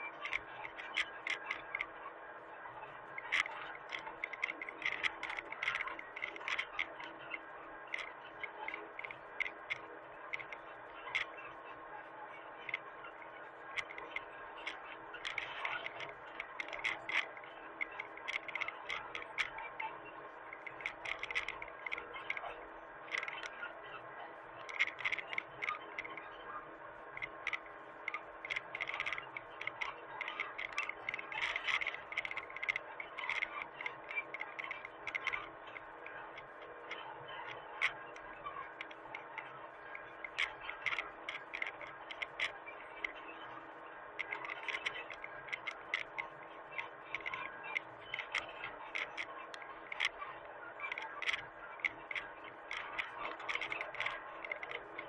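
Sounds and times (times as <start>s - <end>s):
sharp clicks and clatter: 3.0s - 11.4s, 12.6s - 23.6s, 24.6s - 55.0s.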